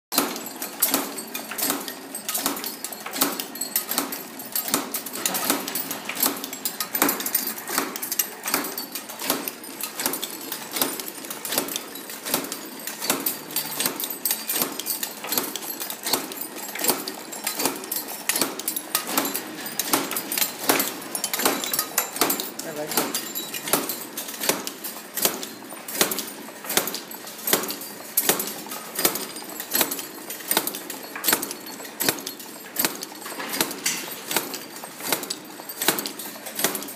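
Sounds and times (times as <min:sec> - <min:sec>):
machine rhythmic metallic clatter: 0:00.1 - 0:36.9
light metal clinks: 0:00.2 - 0:36.9.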